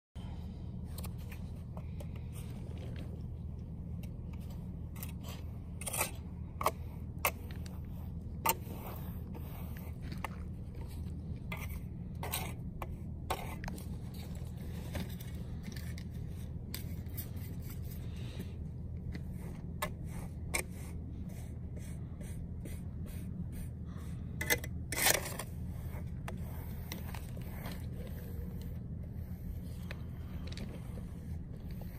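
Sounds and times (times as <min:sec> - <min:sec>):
steady low hum: 0:00.2 - 0:31.9.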